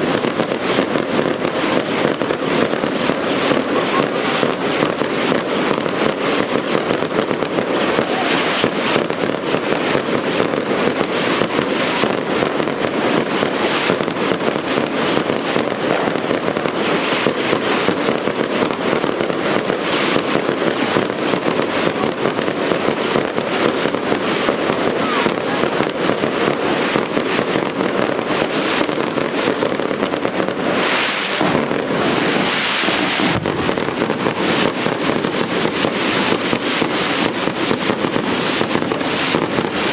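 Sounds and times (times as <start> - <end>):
firecracker bangs: 0.0 - 39.9
fireworks hiss: 0.0 - 39.9.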